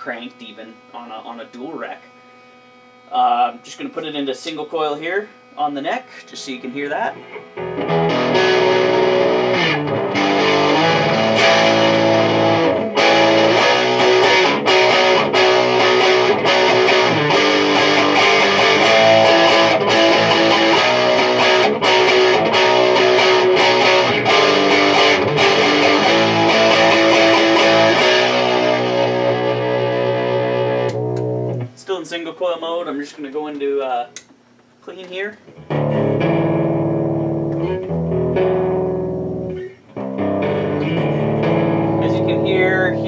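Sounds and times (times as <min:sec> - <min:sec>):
distorted electric guitar riffs: 0:00.0 - 0:31.8, 0:35.5 - 0:43.0.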